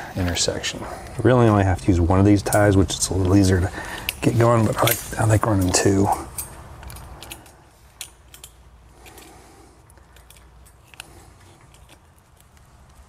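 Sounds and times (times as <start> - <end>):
metal tie wires clicking and jingling: 0.2 - 13.0.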